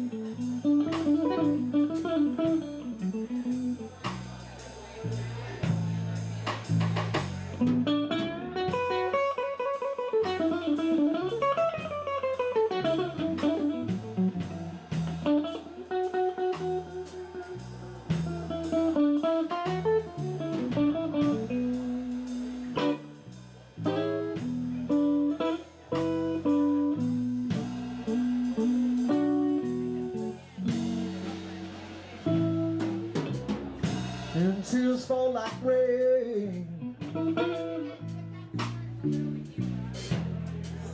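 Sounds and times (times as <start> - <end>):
blues band playing: 0.0 - 40.9
lead guitar: 0.0 - 40.9.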